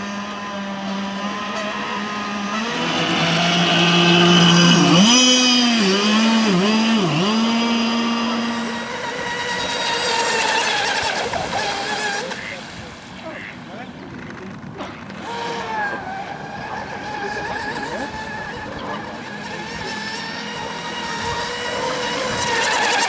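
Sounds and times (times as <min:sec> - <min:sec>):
model boat motor running: 0:00.0 - 0:23.0.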